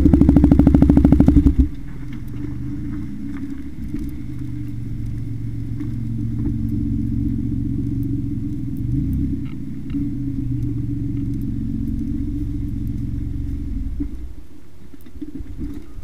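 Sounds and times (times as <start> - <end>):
engine idling: 0.0 - 14.4.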